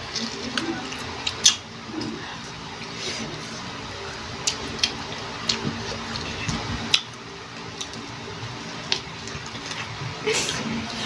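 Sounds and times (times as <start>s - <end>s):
wet chewing and crunching: 0.0s - 2.6s, 4.1s - 10.6s.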